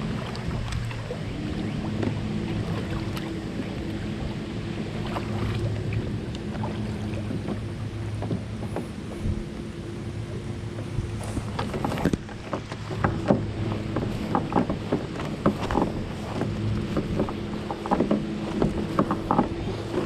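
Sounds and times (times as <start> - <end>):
boat motor humming: 0.0 - 20.0
waves slapping against hull: 0.0 - 20.0
wind: 0.0 - 20.0.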